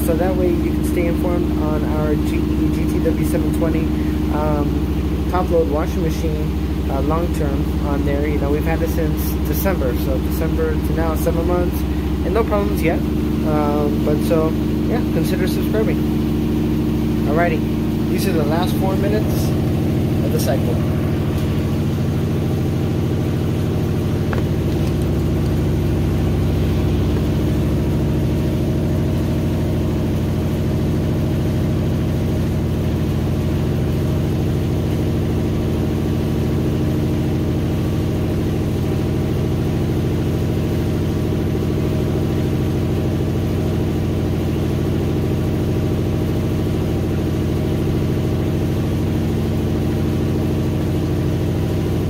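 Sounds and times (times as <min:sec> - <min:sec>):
washing machine motor and drum hum: 0:00.0 - 0:52.0.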